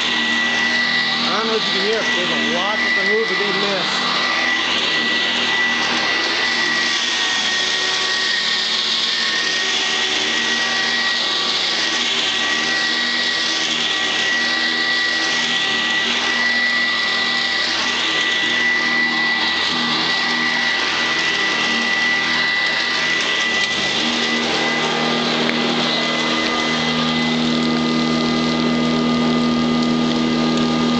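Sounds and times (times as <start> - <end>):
upright vacuum running: 0.0 - 30.9.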